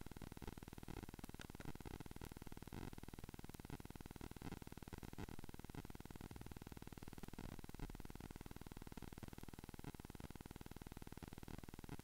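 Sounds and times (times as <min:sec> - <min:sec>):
faint electrical buzz and hiss: 0:00.0 - 0:12.0.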